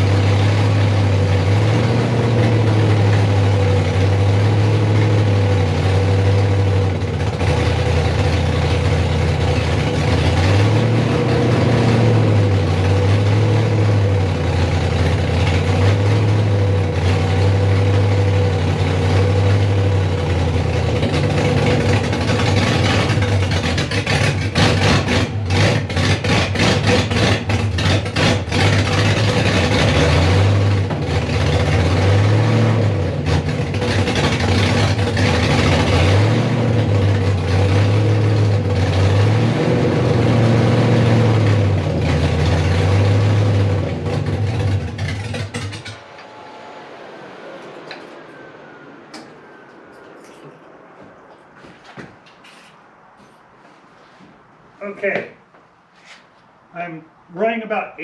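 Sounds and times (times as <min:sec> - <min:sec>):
engine running with heavy lope: 0:00.0 - 0:55.3.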